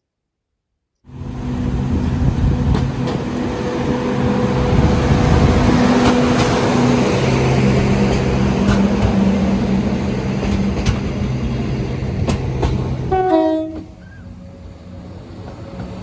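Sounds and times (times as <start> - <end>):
vehicle engine humming: 1.1 - 16.0.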